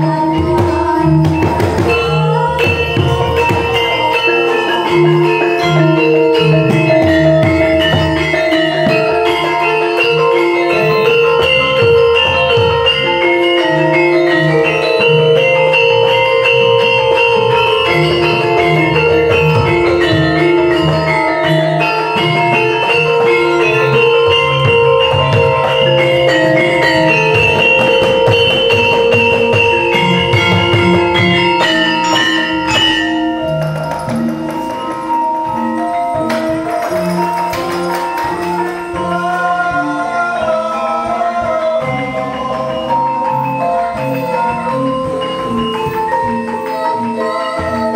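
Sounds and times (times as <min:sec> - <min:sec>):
gongs: 0:00.0 - 0:47.9
hand drums: 0:00.0 - 0:47.9
metallophones ringing melody: 0:00.0 - 0:47.9.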